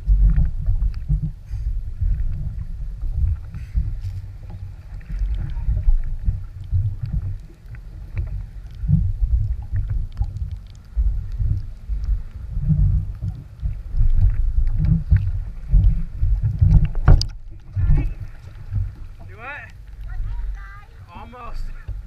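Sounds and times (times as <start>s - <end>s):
jet ski engine rumble: 0.0s - 22.0s.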